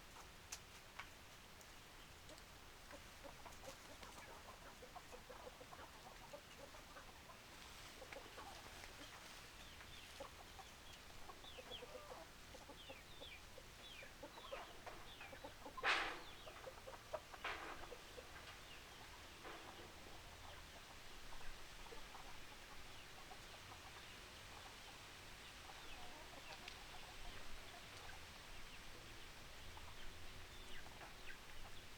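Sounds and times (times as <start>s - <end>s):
hens clucking: 2.3s - 31.9s
chicks peeping: 2.9s - 31.9s.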